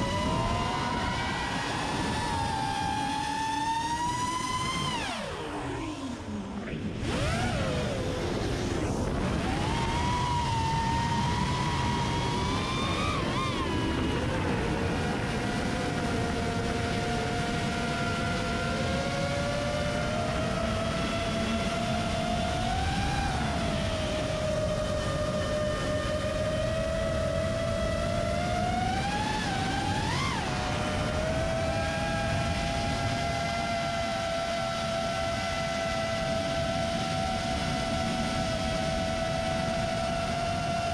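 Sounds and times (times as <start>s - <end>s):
drone motors and propellers whining: 0.0s - 40.9s.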